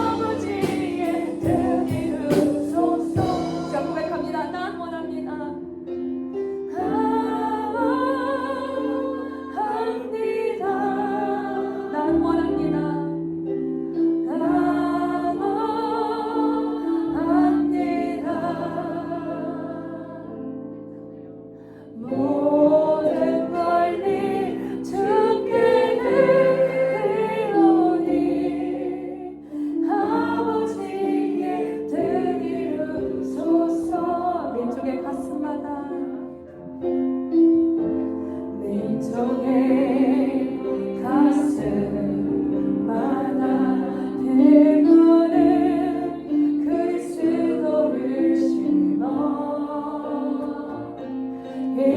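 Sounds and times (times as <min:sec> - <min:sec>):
group singing worship songs: 0:00.0 - 0:05.1, 0:06.7 - 0:13.4, 0:14.2 - 0:20.9, 0:21.8 - 0:36.3, 0:38.5 - 0:51.9
piano accompaniment: 0:00.0 - 0:51.9.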